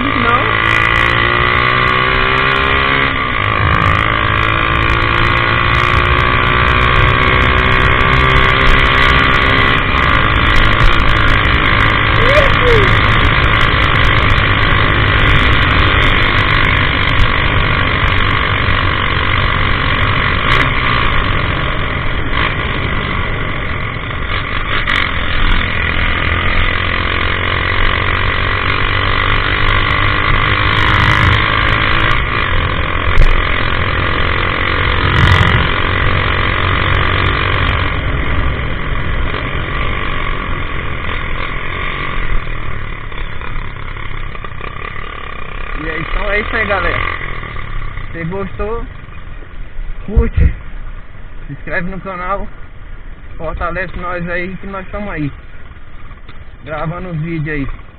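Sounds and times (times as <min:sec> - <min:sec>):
motorcycle engine running loud: 0:00.0 - 0:57.9.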